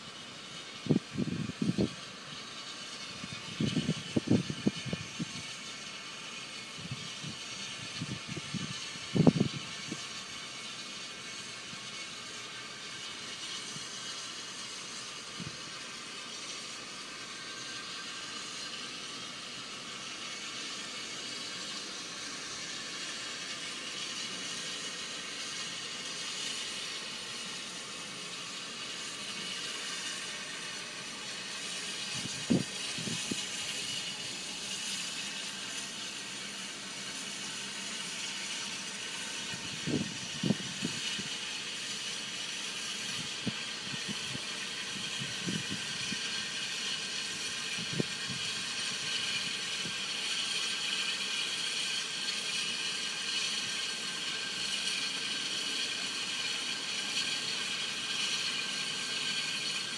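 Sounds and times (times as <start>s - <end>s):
steam locomotive hissing: 0.0s - 59.9s.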